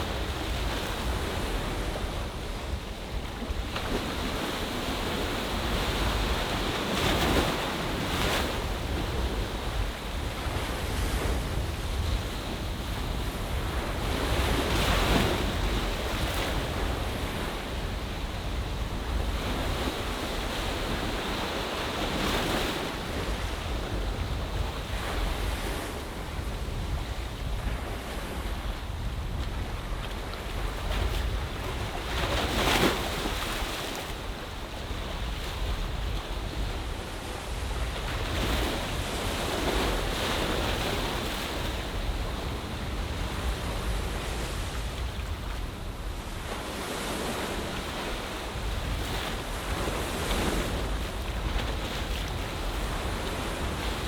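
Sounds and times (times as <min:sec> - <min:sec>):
ocean waves washing: 0:00.0 - 0:54.0
wave splashes: 0:00.0 - 0:54.0
wind rumble on microphone: 0:00.0 - 0:54.0.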